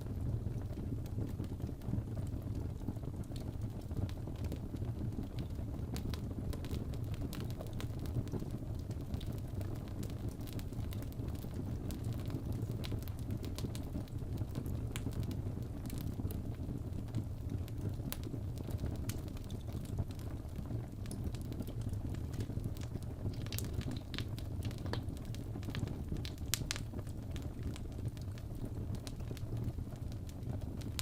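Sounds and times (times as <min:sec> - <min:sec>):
fire crackles and pops: 0:00.0 - 0:31.0
fire rumbling in fireplace: 0:00.0 - 0:31.0.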